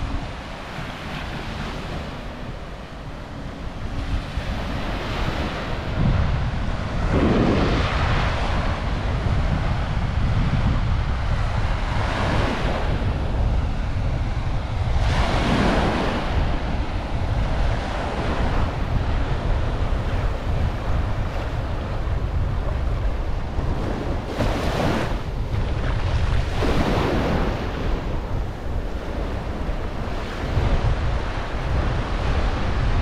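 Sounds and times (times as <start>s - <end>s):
ocean surf breaking: 0.0s - 33.0s
waves crashing: 0.0s - 33.0s
wind rumble on microphone: 0.0s - 33.0s.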